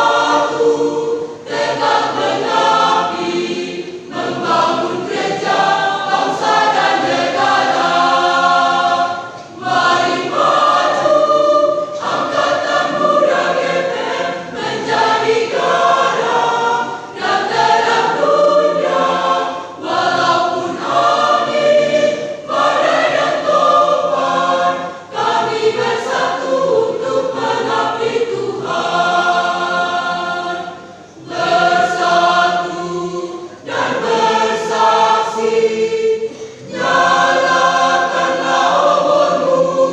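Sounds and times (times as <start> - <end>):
youth choir singing: 0.0 - 39.9.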